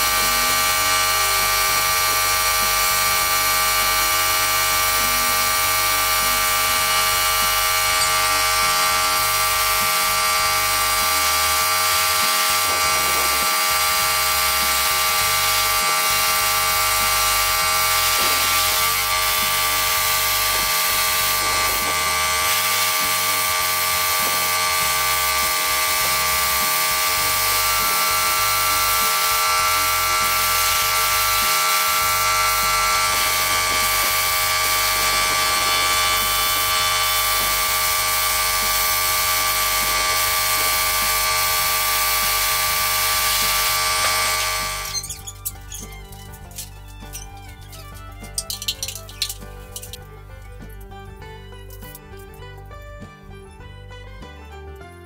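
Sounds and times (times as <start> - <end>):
air compressor humming: 0.0 - 54.4.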